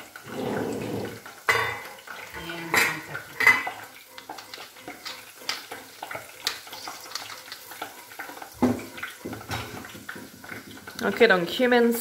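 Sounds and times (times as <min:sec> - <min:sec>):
tomato sauce bubbling in a pot: 0:00.0 - 0:12.0.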